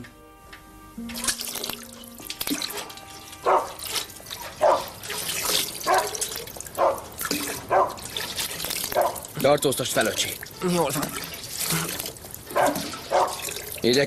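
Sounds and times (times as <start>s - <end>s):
water gushing into a metal tub: 1.1s - 14.0s.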